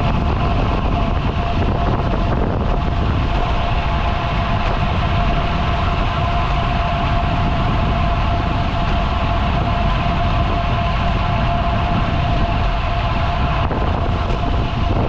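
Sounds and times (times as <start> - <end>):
bicycle tyre rumble: 0.0 - 15.0
thin whine: 0.0 - 15.0
wind rushing over microphone: 0.0 - 15.0.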